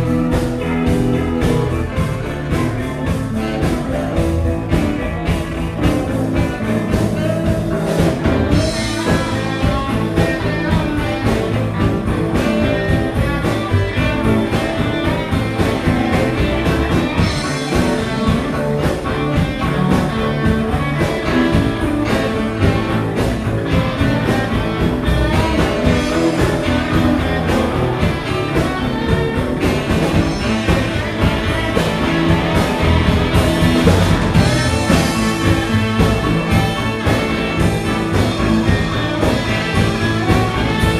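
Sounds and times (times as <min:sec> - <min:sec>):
drums steady beat: 0:00.0 - 0:40.9
electric guitar: 0:00.0 - 0:40.9
second guitar or bass: 0:00.0 - 0:40.9.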